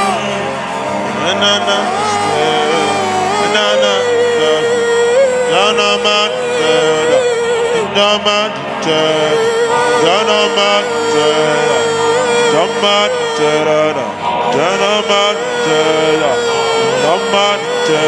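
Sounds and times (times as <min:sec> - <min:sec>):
sustained musical accompaniment: 0:00.0 - 0:18.0
voice chanting long held notes: 0:00.0 - 0:18.0.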